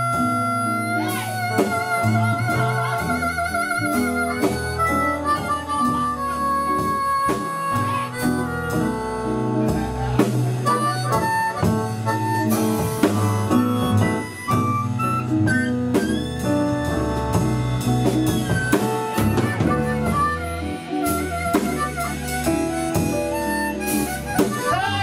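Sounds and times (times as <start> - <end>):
blues band playing: 0.0 - 25.0
harmonica lead: 0.0 - 25.0.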